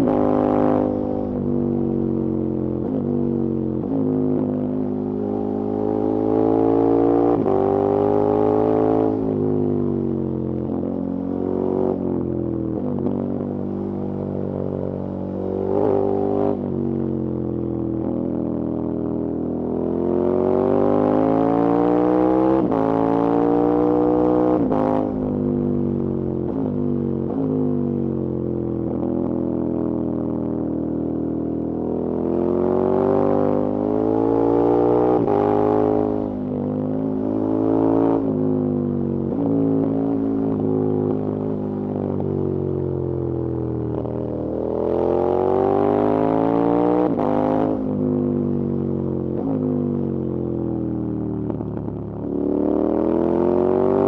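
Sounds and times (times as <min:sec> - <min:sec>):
motorcycle engine revving through gears: 0:00.0 - 0:09.7, 0:12.7 - 0:16.8, 0:19.7 - 0:29.4, 0:31.2 - 0:42.4, 0:43.3 - 0:54.0.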